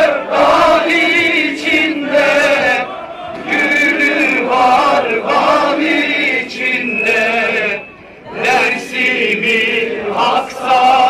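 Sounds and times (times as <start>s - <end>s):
crowd chanting in unison: 0.0s - 11.0s.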